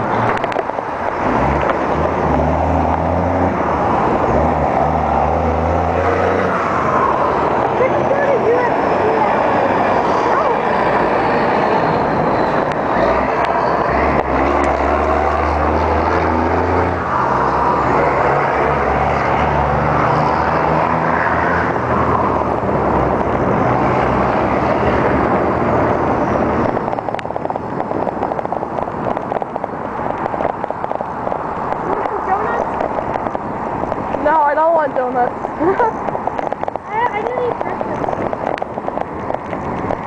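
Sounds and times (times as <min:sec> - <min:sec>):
road traffic: 0:00.0 - 0:40.0
vehicle engine droning: 0:00.0 - 0:40.0
wind rushing on microphone: 0:00.0 - 0:40.0.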